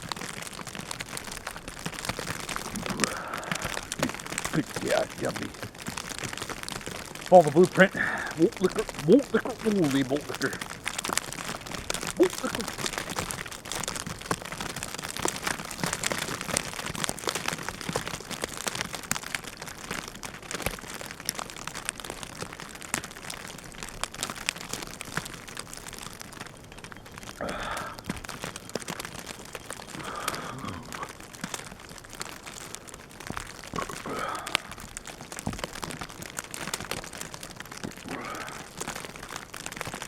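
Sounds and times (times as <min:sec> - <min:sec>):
crackling and crinkling: 0:00.0 - 0:40.0.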